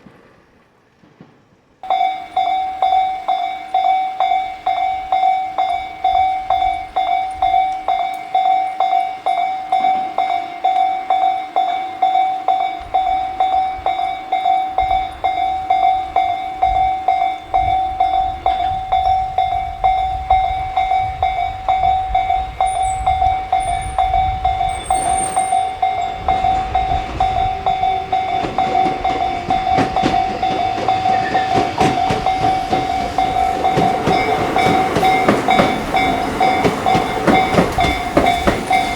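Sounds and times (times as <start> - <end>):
train rumble and wheel clatter: 0.0 - 38.9
level crossing warning bell: 1.8 - 38.9.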